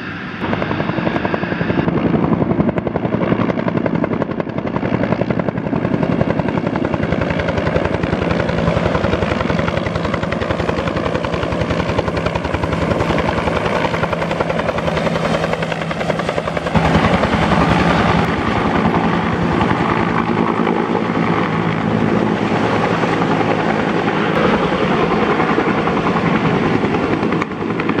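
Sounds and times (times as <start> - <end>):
helicopter engine hum: 0.0 - 28.0
helicopter rotor beating: 0.0 - 28.0.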